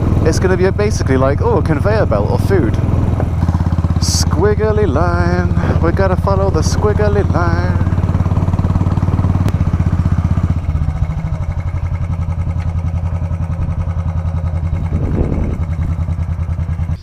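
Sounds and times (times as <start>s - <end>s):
motorcycle engine thumping: 0.0s - 17.0s.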